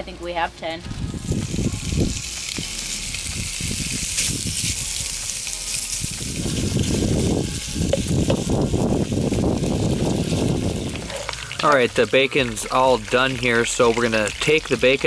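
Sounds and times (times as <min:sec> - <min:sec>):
bacon sizzling in a pot: 0:01.1 - 0:15.0.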